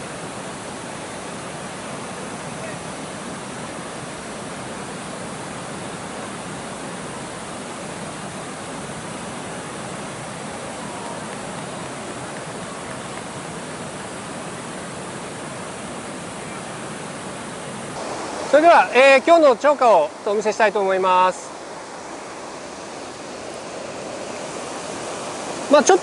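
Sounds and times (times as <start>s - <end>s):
river rushing over riffles: 0.0s - 26.0s.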